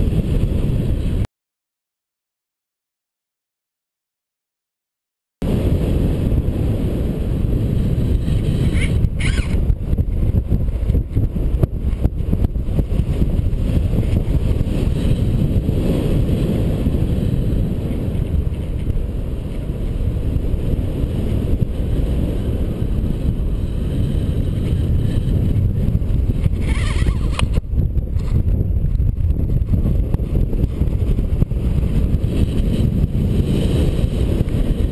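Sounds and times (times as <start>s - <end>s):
wind noise on microphone: 0.0s - 1.3s, 5.4s - 34.9s.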